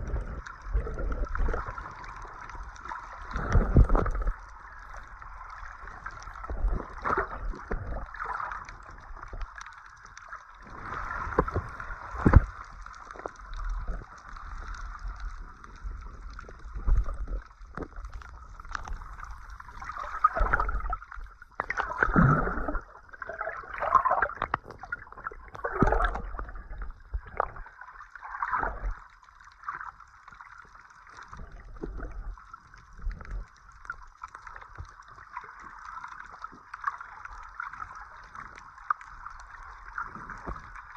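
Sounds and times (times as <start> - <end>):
water sloshing and gurgling: 0.0 - 40.9.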